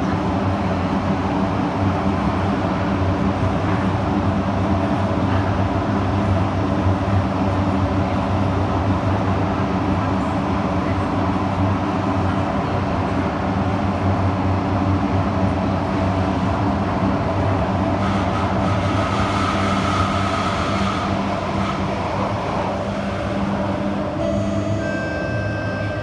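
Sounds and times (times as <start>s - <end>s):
metro train wheels rumbling on rails: 0.0s - 26.0s.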